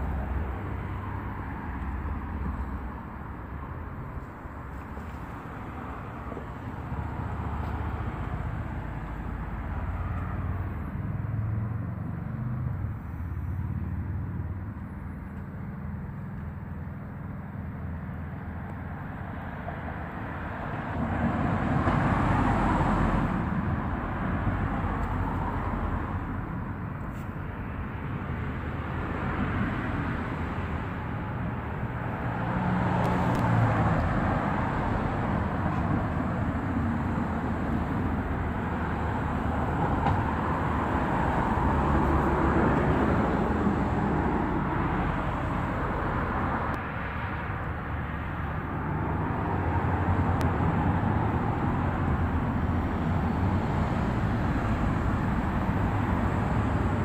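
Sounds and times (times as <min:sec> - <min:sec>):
outdoor background rumble: 0:00.0 - 0:57.0.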